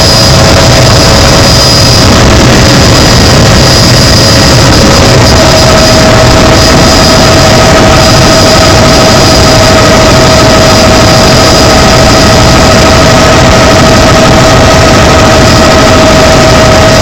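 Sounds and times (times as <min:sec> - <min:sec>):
helicopter engine and rotor: 0:00.0 - 0:17.0
high whine: 0:00.0 - 0:17.0.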